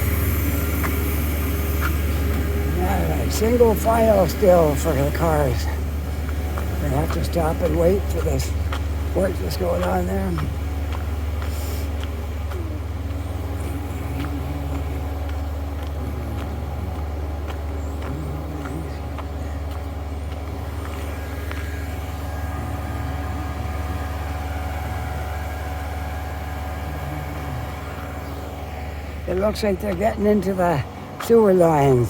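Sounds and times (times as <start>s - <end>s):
heavy engine humming: 0.0s - 32.0s.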